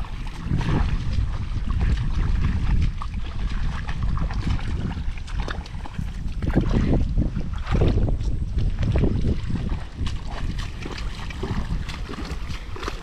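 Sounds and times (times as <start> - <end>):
feet wading through muddy water: 0.0 - 13.0
wind buffeting microphone: 0.0 - 13.0.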